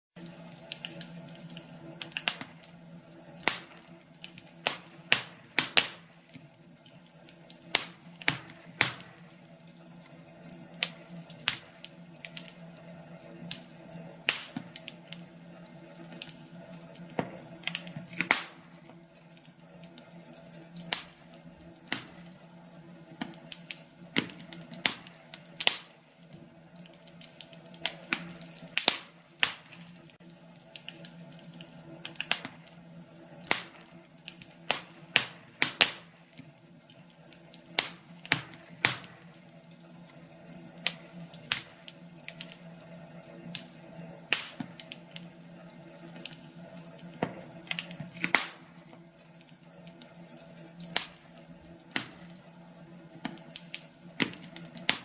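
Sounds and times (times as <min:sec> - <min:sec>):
wood fire crackling and popping: 0:00.2 - 0:55.0.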